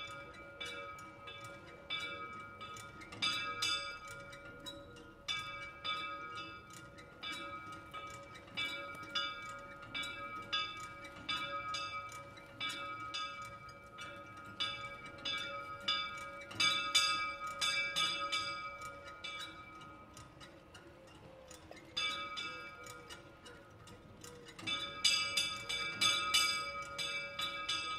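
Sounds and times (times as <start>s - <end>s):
small church bells pealing: 0.0s - 20.1s, 21.9s - 23.4s, 24.5s - 27.9s.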